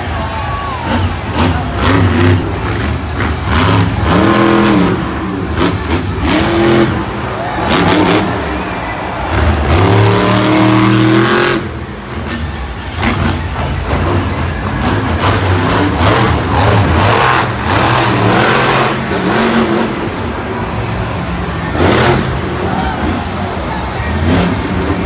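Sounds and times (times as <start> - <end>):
truck engine revving hard: 0.8 - 25.0.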